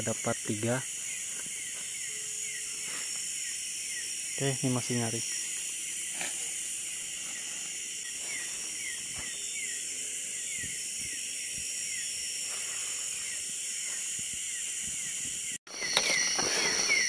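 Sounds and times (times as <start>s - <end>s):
insect chorus shrilling: 0.0s - 17.0s.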